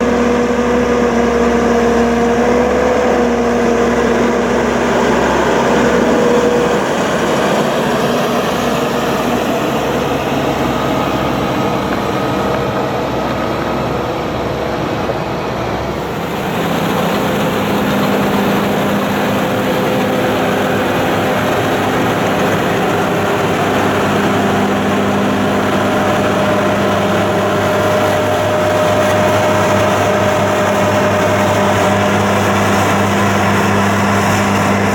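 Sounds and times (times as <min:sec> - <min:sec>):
diesel machinery running: 0:00.0 - 0:34.9
high whine: 0:00.0 - 0:34.9.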